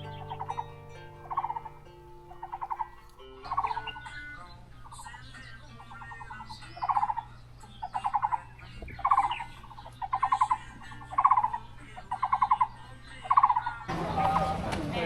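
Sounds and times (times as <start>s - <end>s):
bird rattling trills: 0.0s - 14.5s.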